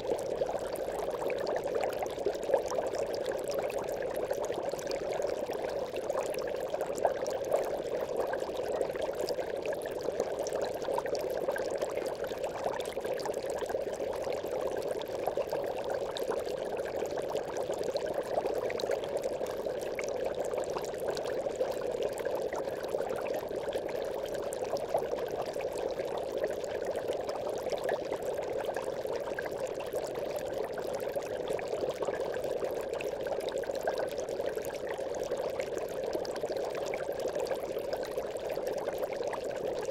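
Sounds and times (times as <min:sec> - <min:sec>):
aquarium air bubbles: 0:00.0 - 0:39.9.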